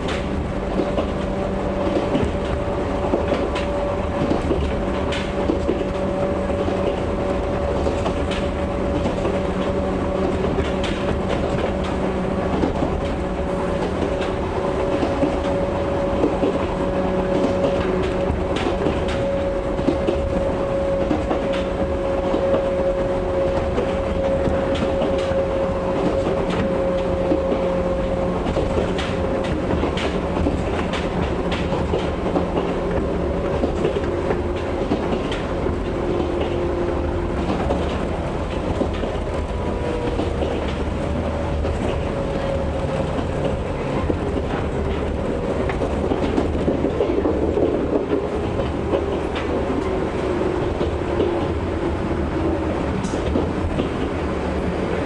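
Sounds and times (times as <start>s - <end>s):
low train running rumble: 0.0s - 55.0s
wheels clicking over rail joints: 0.0s - 55.0s.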